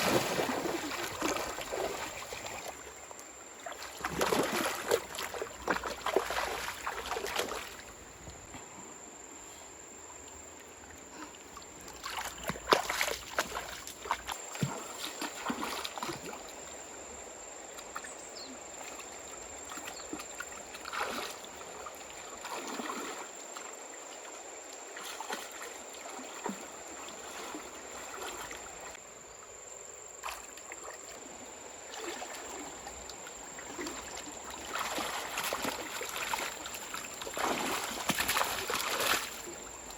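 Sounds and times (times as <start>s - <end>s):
shallow water sloshing and splashing: 0.0s - 8.0s, 10.5s - 16.8s, 18.8s - 29.0s, 30.2s - 39.9s.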